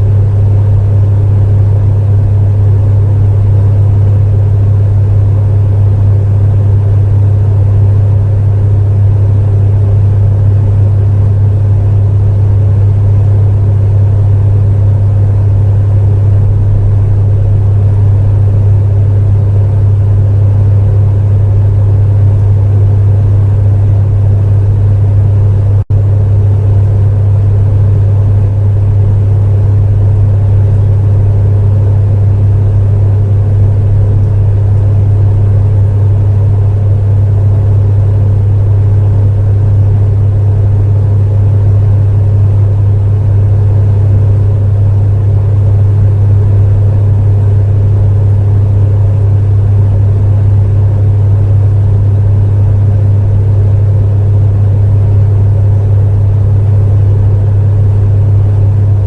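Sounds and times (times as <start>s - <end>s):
space heater humming with fan: 0.0s - 59.0s.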